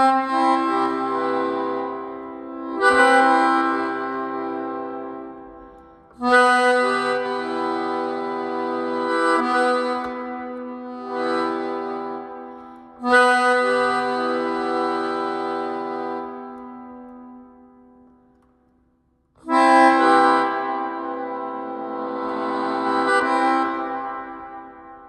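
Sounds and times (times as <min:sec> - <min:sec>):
melodica playing held chords: 0:00.0 - 0:18.5, 0:19.4 - 0:25.0.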